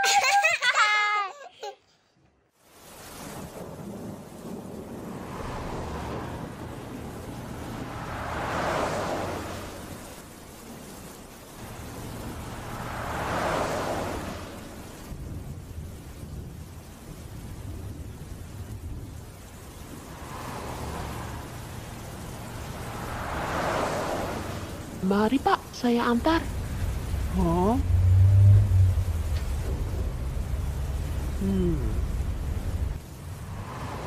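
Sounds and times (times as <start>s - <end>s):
steady rain: 0.0s - 34.0s
thunder rolling: 2.7s - 34.0s.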